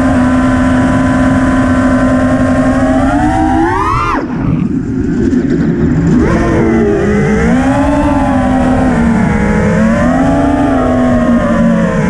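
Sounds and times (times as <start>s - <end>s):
drone motors whining: 0.0s - 4.8s, 6.0s - 12.0s
wind rumble: 0.0s - 12.0s.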